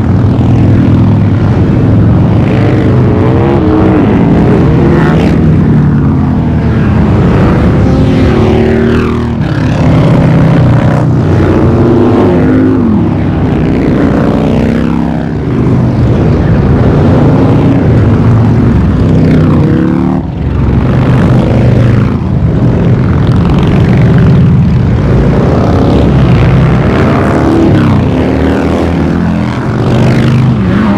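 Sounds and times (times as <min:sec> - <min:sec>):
motorcycles rumbling past: 0:00.0 - 0:30.9.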